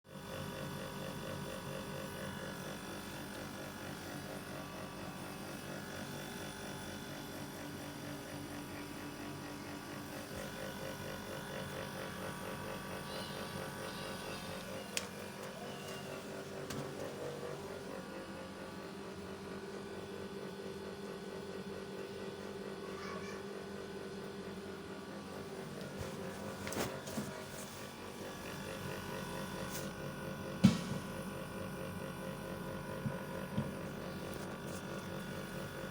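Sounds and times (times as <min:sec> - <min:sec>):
air conditioner hum: 0:00.1 - 0:35.9.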